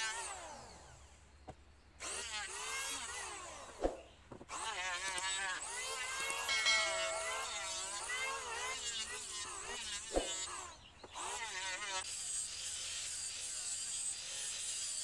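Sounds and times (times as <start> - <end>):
angle grinder sanding wood: 2.0 - 15.0.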